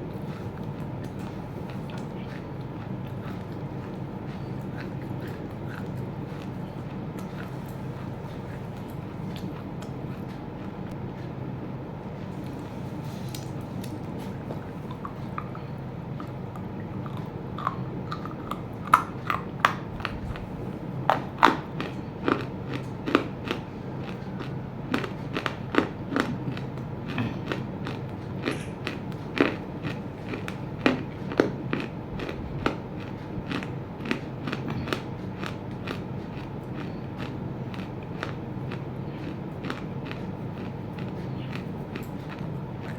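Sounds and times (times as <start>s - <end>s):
crunchy chewing: 0.0s - 42.9s
steady low hum: 0.0s - 42.9s.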